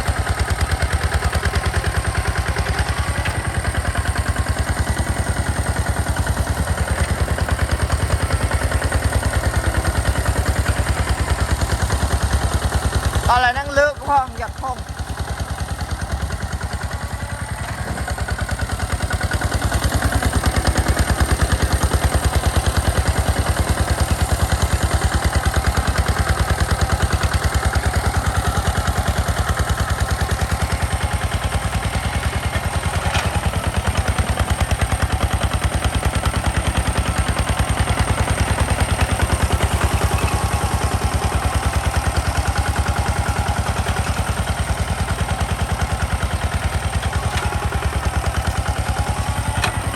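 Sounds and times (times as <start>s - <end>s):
diesel engine chugging: 0.0s - 49.9s.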